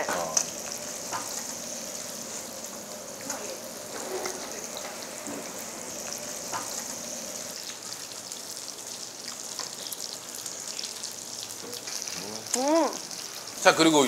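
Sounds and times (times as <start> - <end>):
meat sizzling on grill pan: 0.0 - 14.0.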